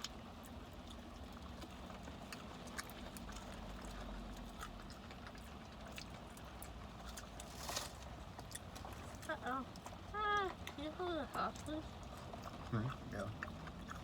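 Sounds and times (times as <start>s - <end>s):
people eating crispy food: 0.0s - 14.0s.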